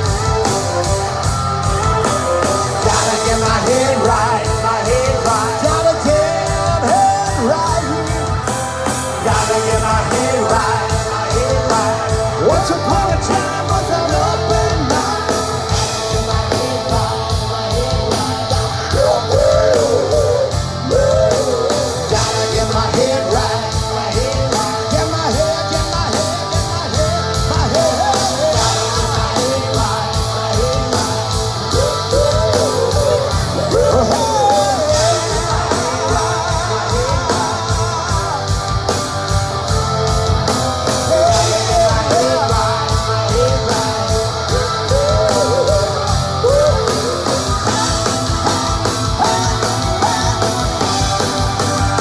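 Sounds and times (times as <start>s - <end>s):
rock band playing: 0.0s - 52.0s
man singing: 1.6s - 52.0s.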